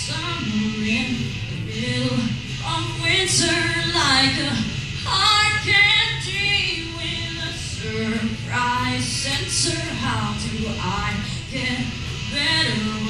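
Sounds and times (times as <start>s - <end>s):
two women singing a duet: 0.0s - 13.0s.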